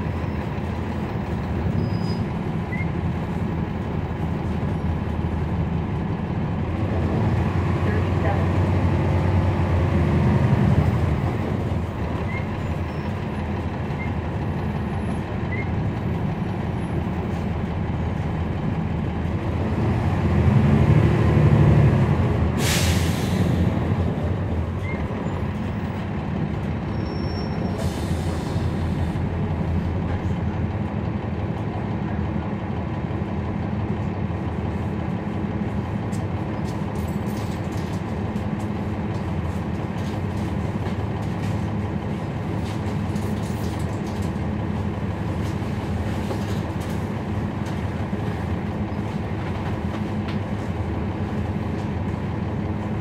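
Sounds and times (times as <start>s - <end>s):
bus diesel engine rumbling: 0.0s - 53.0s.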